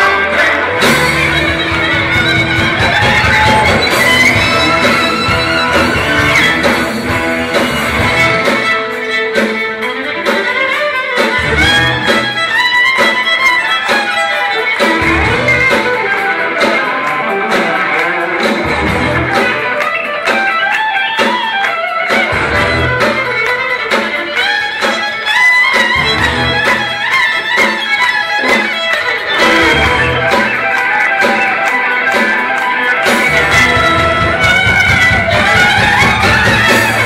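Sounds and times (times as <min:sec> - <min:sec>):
electric guitars: 0:00.0 - 0:37.0
violin melody: 0:00.0 - 0:37.0.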